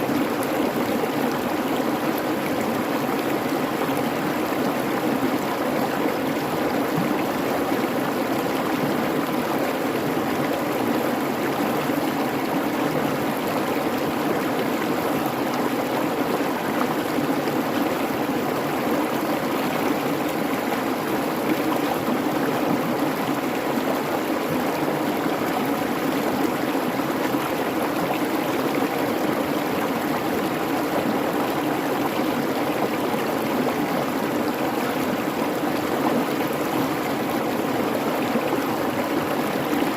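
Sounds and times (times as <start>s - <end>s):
creek water burbling: 0.0s - 39.9s.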